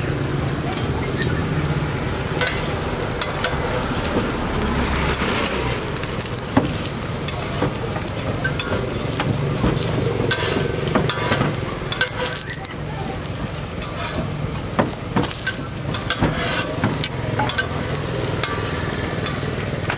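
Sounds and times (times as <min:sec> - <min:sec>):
flatbread sizzling on griddle: 0:00.0 - 0:19.9
metal spatulas scraping griddle: 0:00.7 - 0:12.7, 0:13.8 - 0:14.4, 0:15.0 - 0:19.6.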